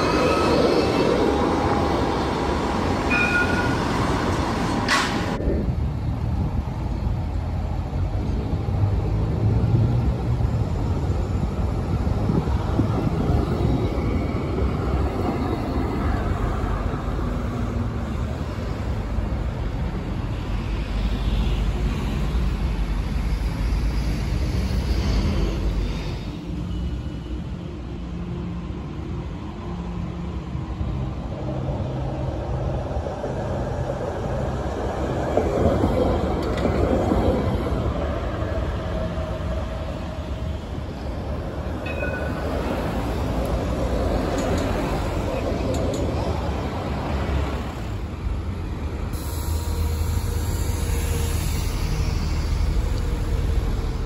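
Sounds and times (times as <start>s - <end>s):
electric tram passing on rails: 0.0s - 54.0s
road traffic: 0.0s - 54.0s.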